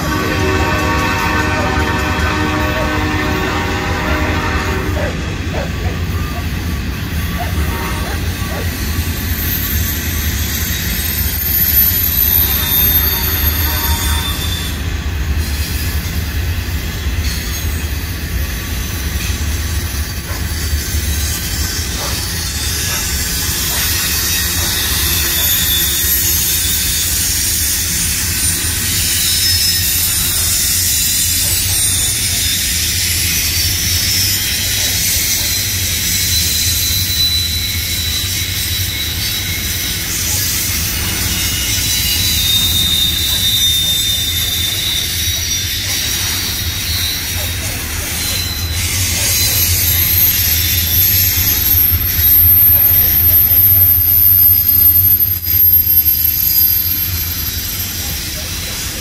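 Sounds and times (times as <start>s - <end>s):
freight train wheels rumbling: 0.0s - 59.0s
high-pitched wheel squeals: 6.0s - 59.0s.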